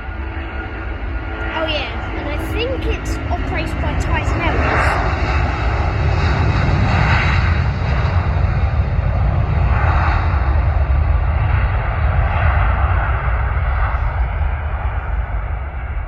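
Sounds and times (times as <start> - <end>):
jet airliner engines rumbling: 0.0 - 16.0.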